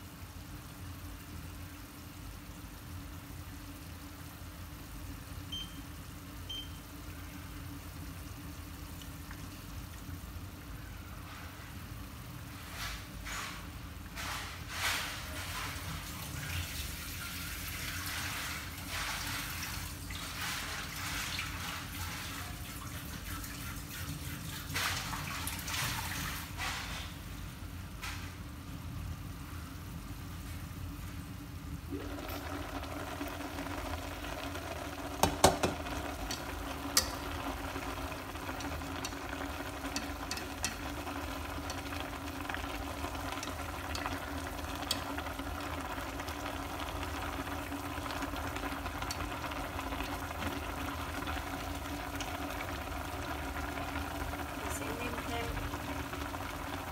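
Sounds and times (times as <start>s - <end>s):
soup bubbling in a pot: 0.0s - 27.8s, 29.1s - 56.9s.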